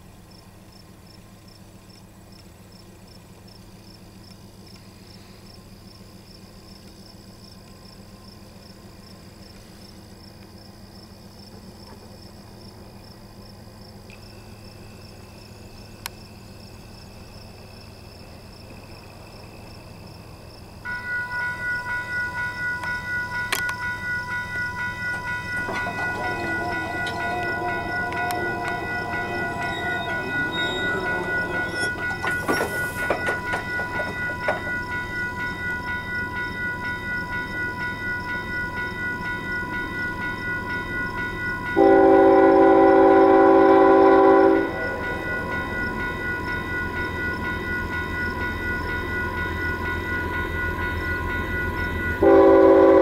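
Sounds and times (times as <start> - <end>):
passing train rumble: 0.0 - 53.0
crickets chirring: 0.3 - 53.0
railroad warning tones pulsing: 0.4 - 53.0.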